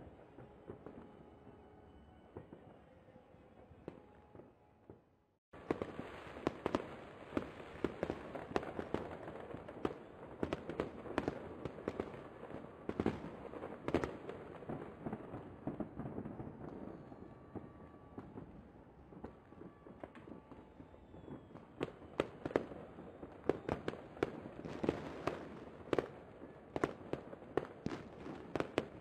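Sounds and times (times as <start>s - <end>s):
fireworks bangs and pops: 5.6s - 29.0s.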